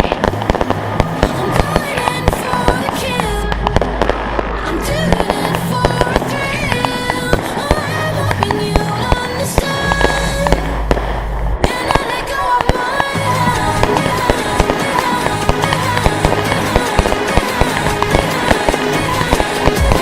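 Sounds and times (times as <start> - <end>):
music: 0.0 - 11.0, 11.6 - 20.0
fireworks popping and crackling: 0.0 - 20.0.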